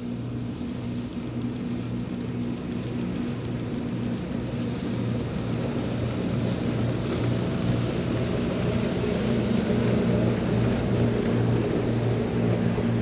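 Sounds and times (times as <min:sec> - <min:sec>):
low drone of motors and gearing: 0:00.0 - 0:13.0
train running past: 0:00.0 - 0:13.0.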